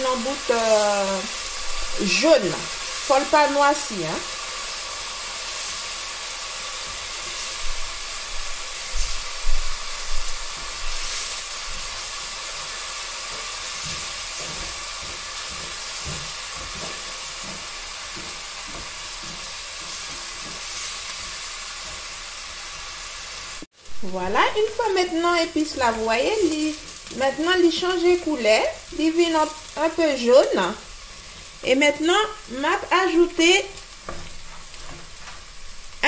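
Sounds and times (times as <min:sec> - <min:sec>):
spices sizzling in oil: 0:00.0 - 0:36.0.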